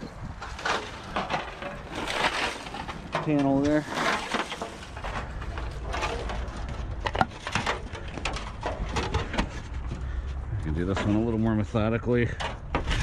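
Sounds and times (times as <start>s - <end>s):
rummaging through salvage: 0.0s - 13.0s.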